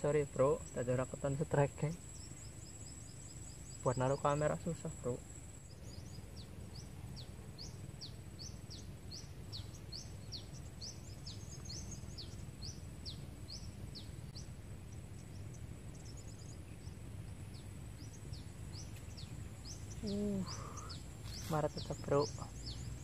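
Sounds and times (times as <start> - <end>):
low outdoor rumble: 0.0 - 23.0
small bird chirping: 0.0 - 23.0.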